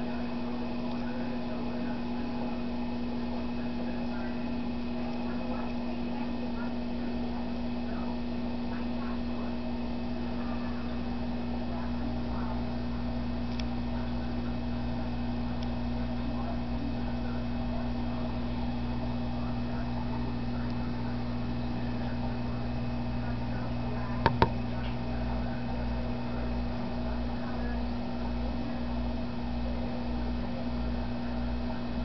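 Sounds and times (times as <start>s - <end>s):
aquarium equipment hum: 0.0s - 32.0s.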